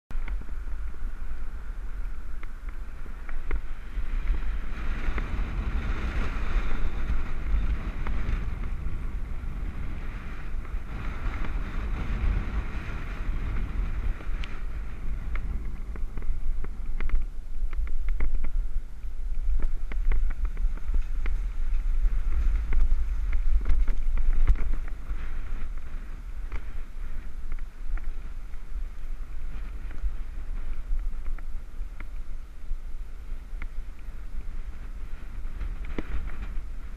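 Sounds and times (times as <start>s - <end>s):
wind buffeting microphone: 0.1s - 36.9s.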